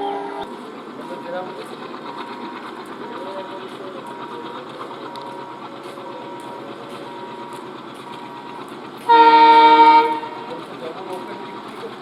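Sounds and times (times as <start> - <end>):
train clatter and rumble: 0.0 - 12.0.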